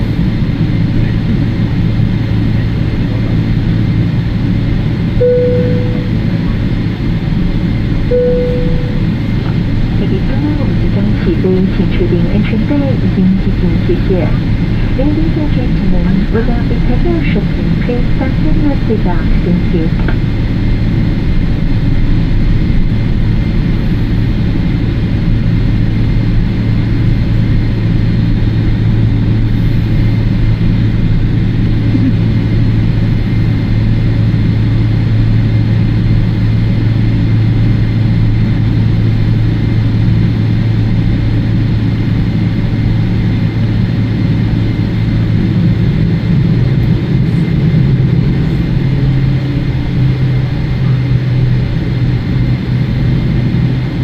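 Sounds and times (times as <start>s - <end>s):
jet engines droning at takeoff: 0.0s - 54.0s.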